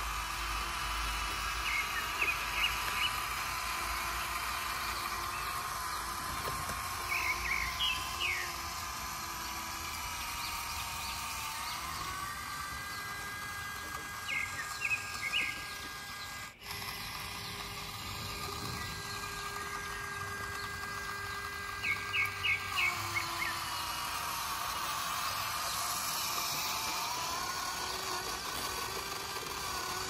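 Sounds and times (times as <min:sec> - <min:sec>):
birds chirping: 0:00.2 - 0:30.0.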